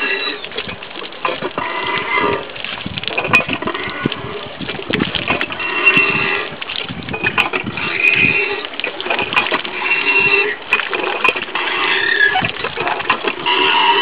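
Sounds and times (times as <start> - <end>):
hand pump squeaky creak: 0.0 - 14.0
pump mechanism clanks: 0.0 - 14.0
water splashing into basin: 0.0 - 14.0.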